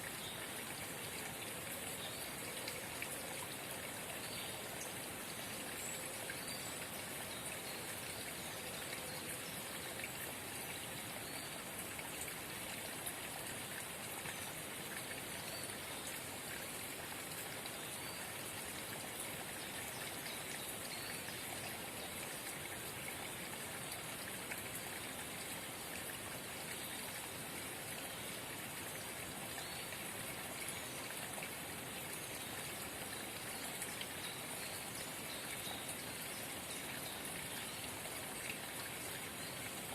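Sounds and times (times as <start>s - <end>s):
spring water babbling: 0.0s - 39.9s.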